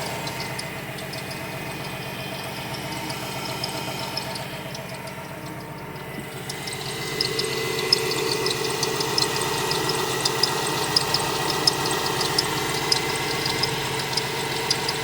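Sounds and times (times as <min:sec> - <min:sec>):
van engine running: 0:00.0 - 0:15.0.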